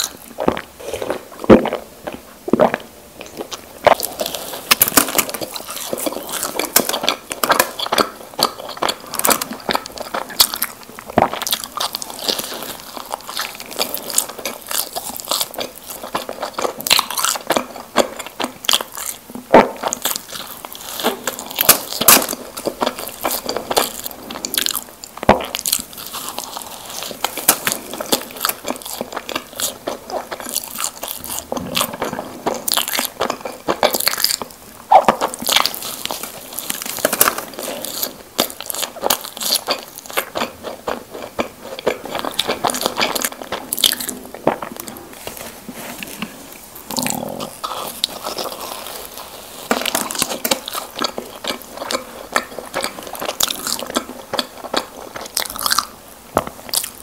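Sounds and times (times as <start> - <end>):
chewing doughnuts: 0.0 - 57.0.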